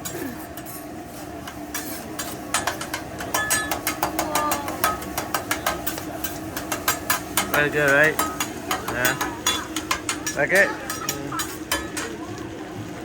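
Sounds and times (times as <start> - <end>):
metal spatulas clinking on griddle: 0.0 - 0.8, 1.4 - 12.2.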